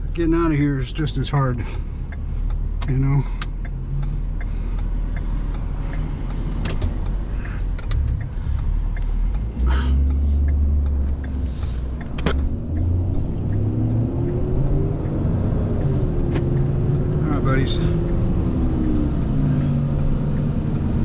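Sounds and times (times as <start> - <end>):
vehicle engine accelerating: 0.2 - 21.0.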